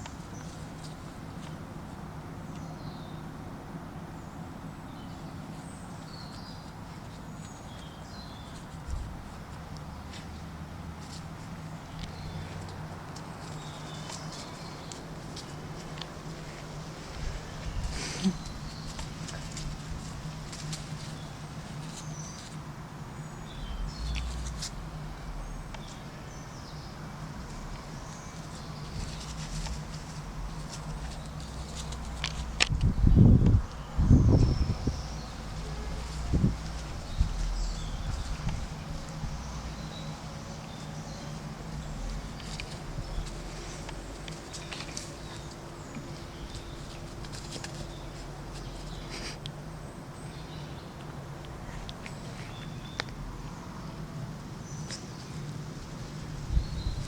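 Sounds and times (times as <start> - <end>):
low background hum: 0.0 - 57.0
birds chirping: 9.9 - 57.0.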